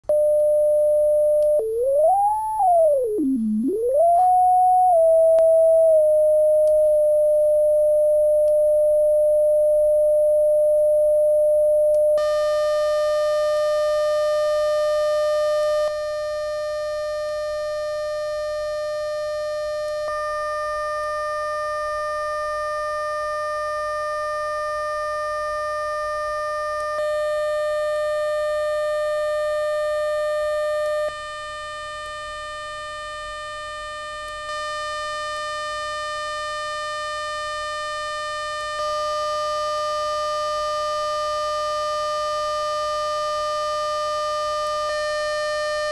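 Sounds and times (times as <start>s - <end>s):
synthesized steady tone: 0.0s - 45.9s.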